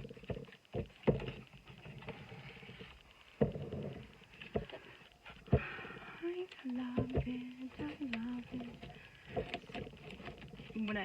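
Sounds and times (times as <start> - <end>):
cardboard and paper rustling: 0.0 - 11.0.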